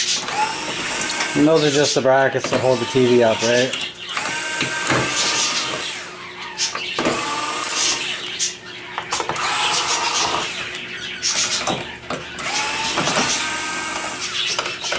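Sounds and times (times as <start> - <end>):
cordless screwdrivers whirring: 0.0 - 8.4, 9.0 - 14.9.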